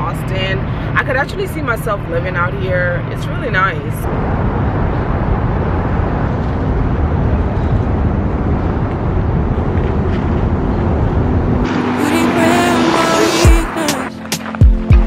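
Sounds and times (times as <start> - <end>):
traffic rumbling over bridge: 0.0 - 13.8.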